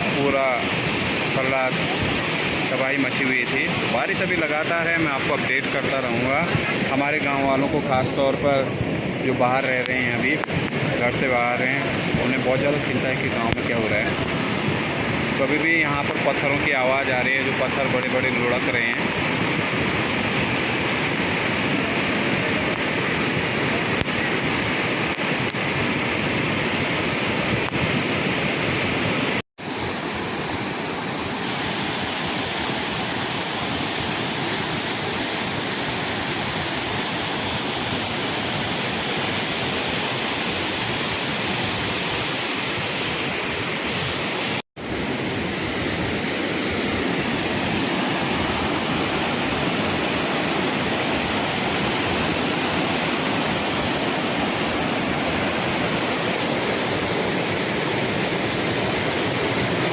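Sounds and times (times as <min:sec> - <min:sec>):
river floodwater rushing: 0:00.0 - 0:59.9.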